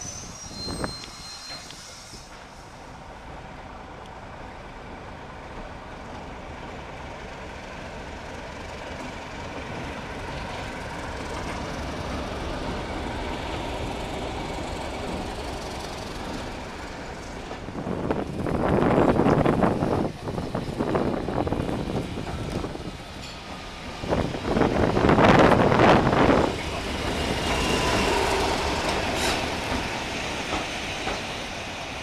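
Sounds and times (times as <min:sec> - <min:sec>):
diesel locomotive rumbling: 0:00.0 - 0:32.0
loud locomotive noise: 0:00.0 - 0:32.0.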